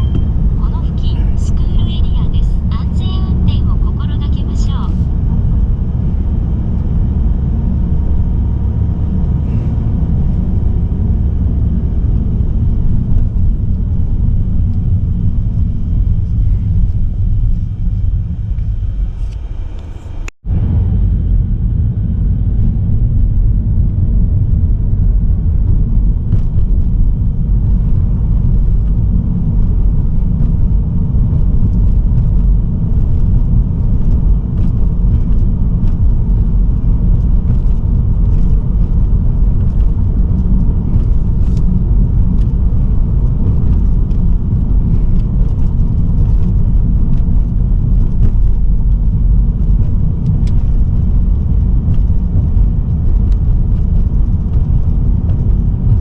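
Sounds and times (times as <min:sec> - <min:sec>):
car road and tyre rumble: 0:00.0 - 0:56.0.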